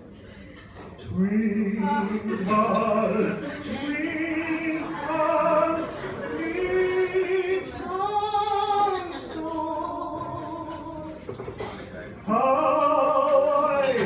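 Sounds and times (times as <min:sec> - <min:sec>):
man singing operatically: 0:01.0 - 0:11.2, 0:12.3 - 0:14.0.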